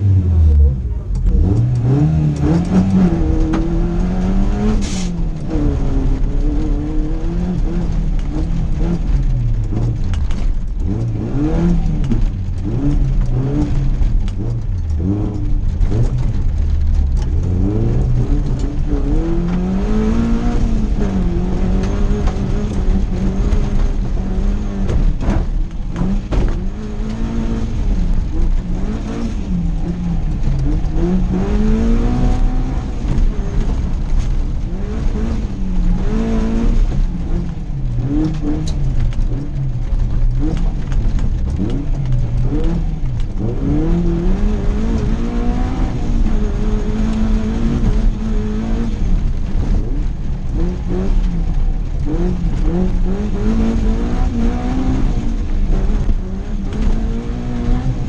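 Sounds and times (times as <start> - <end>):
car engine revving hard: 0.0 - 58.0
tyres rumbling on gravel: 0.0 - 58.0.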